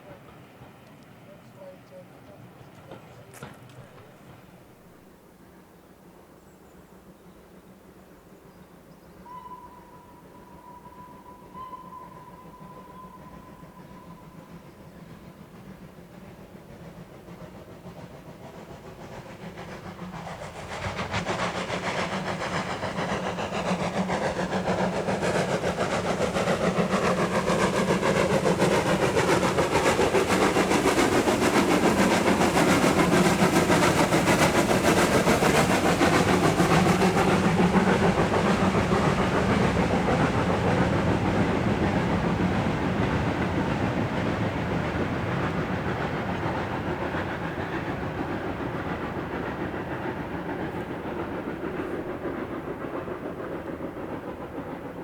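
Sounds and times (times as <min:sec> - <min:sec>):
steam train passing: 0:00.0 - 0:55.0.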